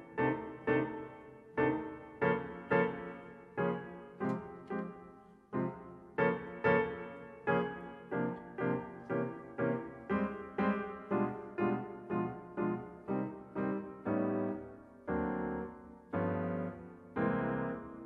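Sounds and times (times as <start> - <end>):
grand piano jazz chords: 0.0 - 18.0.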